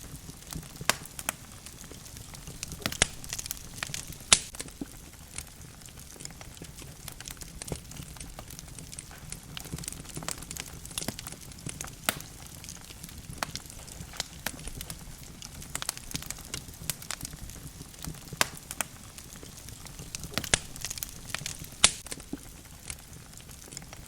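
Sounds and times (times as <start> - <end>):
logs crackling and popping: 0.0 - 24.0
low rumble of flames: 0.0 - 24.0.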